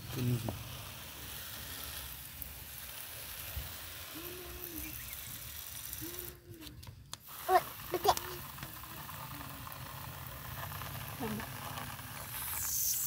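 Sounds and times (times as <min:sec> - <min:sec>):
water pouring from watering can: 0:00.0 - 0:06.4, 0:07.2 - 0:13.0.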